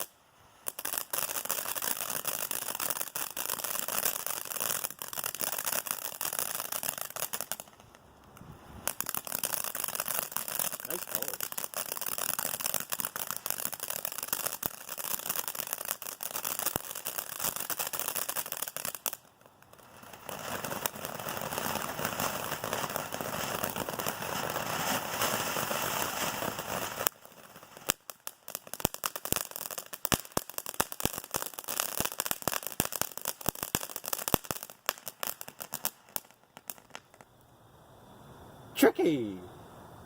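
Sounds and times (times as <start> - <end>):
firework cracks and pops: 0.0 - 37.5
firework crackling: 0.0 - 39.4.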